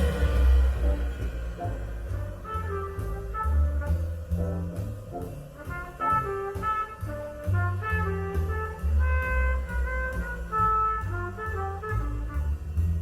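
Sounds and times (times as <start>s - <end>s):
jazz with horns and bass: 0.0s - 13.0s.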